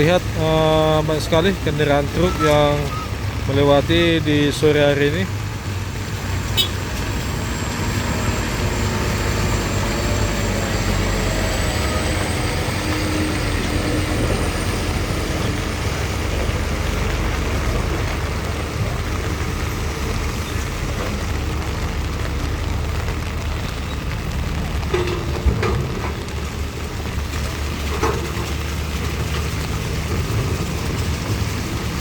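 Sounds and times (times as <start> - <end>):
heavy trucks passing: 0.0 - 32.0.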